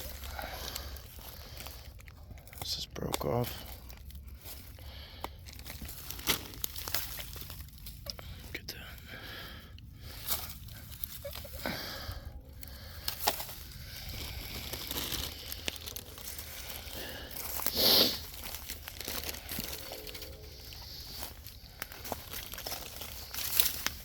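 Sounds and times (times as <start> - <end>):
dry bamboo leaves rustling: 0.0 - 24.0.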